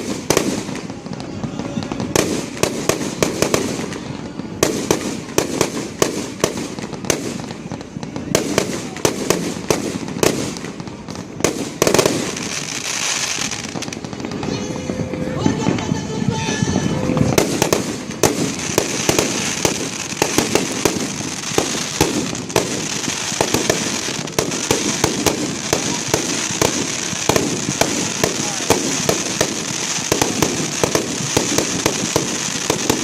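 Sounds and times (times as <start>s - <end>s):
fireworks bangs and pops: 0.0s - 33.0s.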